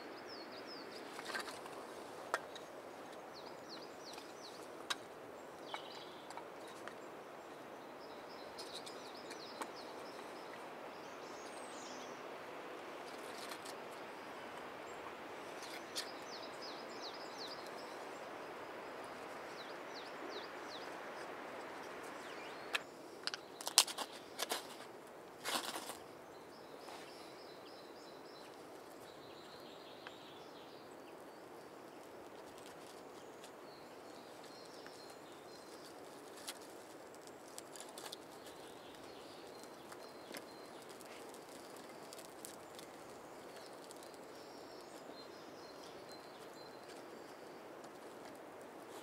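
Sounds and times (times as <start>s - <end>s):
faint steady hiss: 0.0s - 49.0s.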